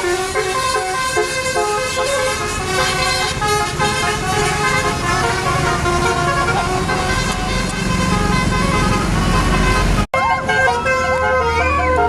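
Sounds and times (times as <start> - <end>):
bus engine rumbling: 0.0 - 12.0
multi-tone bus horn tune: 0.0 - 12.0.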